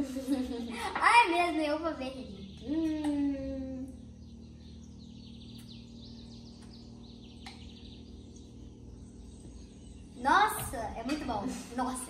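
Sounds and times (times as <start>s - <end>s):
faint bird chirping: 0.0s - 12.0s
quiet background hum: 0.0s - 12.0s.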